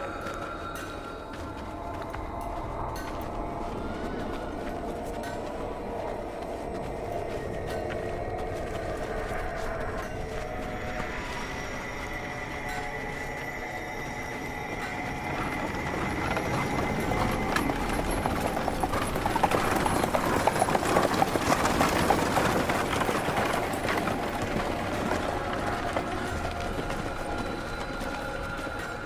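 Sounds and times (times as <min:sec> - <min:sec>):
city street rumble: 0:00.0 - 0:29.0
horse hooves clip-clopping: 0:00.0 - 0:29.0.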